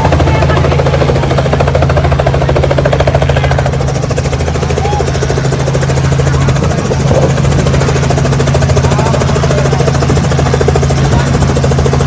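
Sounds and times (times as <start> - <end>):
helicopter engine drone: 0.0 - 12.0
helicopter rotor chop: 0.0 - 12.0.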